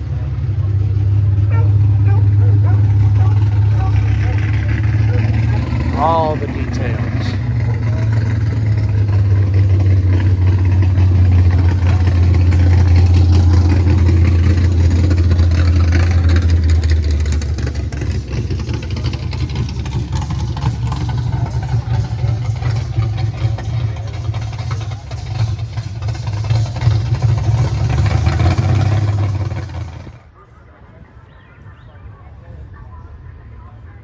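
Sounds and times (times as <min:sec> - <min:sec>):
car engine rumbling: 0:00.0 - 0:30.8.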